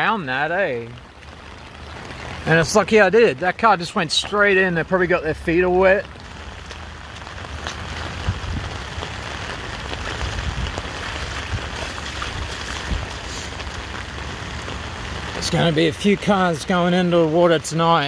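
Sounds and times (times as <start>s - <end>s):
rain pattering on floodwater: 0.0s - 18.0s.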